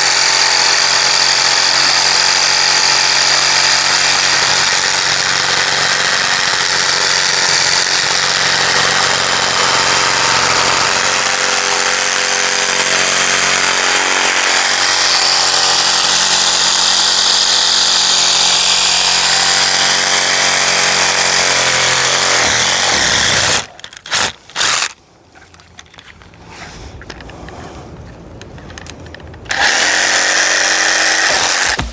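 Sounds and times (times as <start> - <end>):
reciprocating saw cutting tree limbs: 0.0 - 25.0, 29.5 - 31.9.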